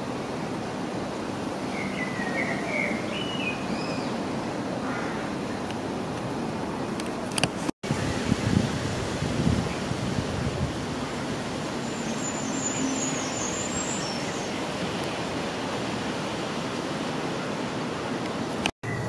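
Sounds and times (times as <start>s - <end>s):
steady rushing noise: 0.0s - 18.7s.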